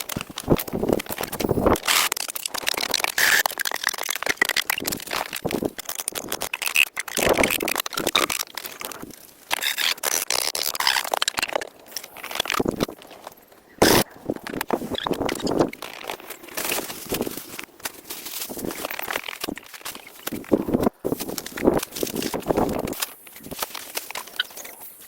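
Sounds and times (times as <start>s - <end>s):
brush crackling: 0.0s - 25.0s.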